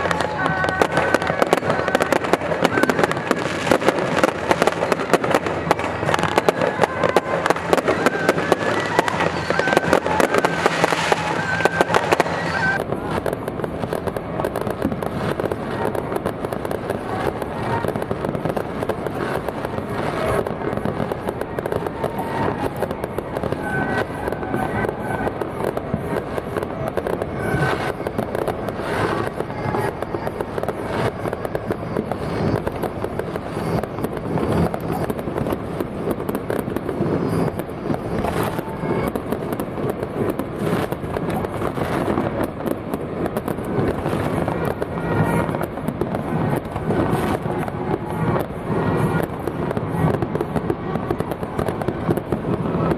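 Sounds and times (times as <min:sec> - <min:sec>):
fireworks crackling and popping: 0:00.0 - 0:52.9.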